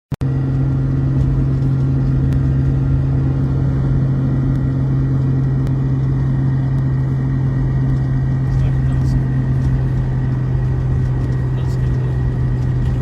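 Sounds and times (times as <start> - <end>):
low engine hum: 0.2 - 13.0
road rumble: 0.2 - 13.0.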